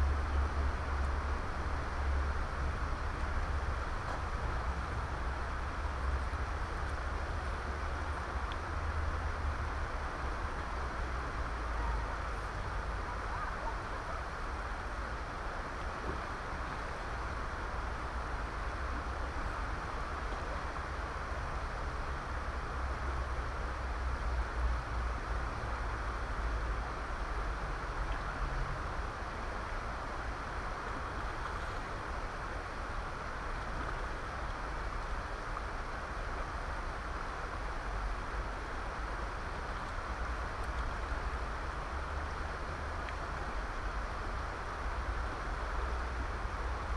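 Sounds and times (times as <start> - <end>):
river water rushing over stones: 0.0 - 46.9.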